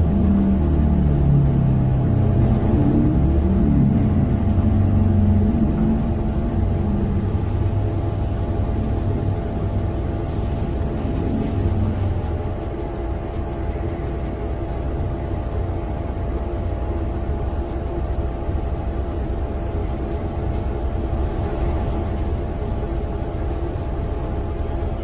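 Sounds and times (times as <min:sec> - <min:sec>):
faint steady hum: 0:00.0 - 0:25.0
vehicle engine and road noise: 0:00.0 - 0:25.0.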